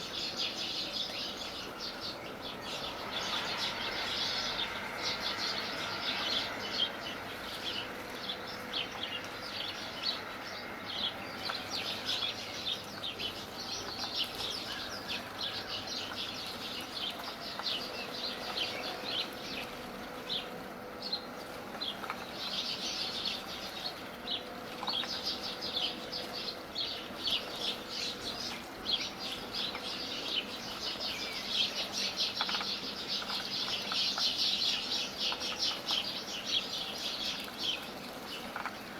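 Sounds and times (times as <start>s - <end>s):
flock of small birds chirping: 0.0s - 38.9s.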